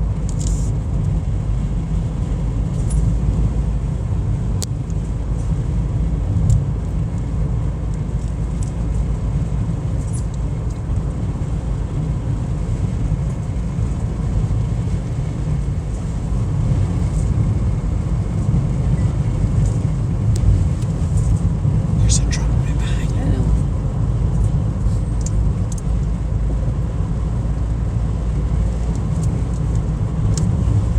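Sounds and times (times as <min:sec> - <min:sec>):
car driving rumble: 0:00.0 - 0:30.9.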